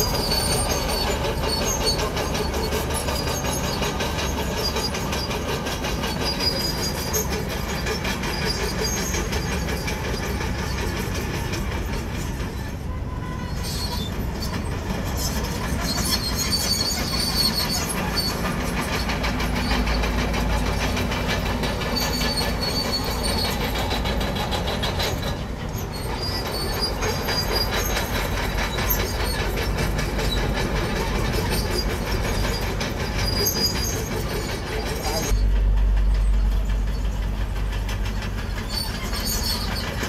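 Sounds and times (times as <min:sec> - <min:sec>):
diesel engine rumble: 0:00.0 - 0:40.0
steel tracks clanking and squealing: 0:00.0 - 0:40.0.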